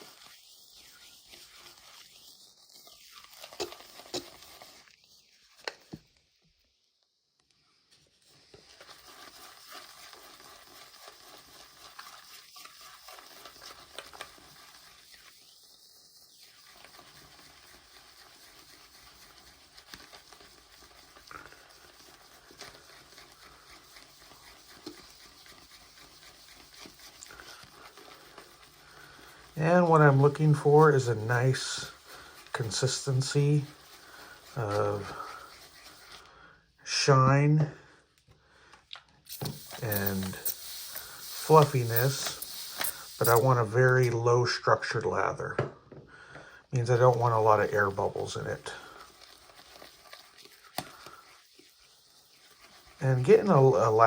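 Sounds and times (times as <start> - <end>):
shaving brush swishing lather: 0.0 - 6.0, 8.1 - 37.4, 39.3 - 44.8, 46.7 - 54.0.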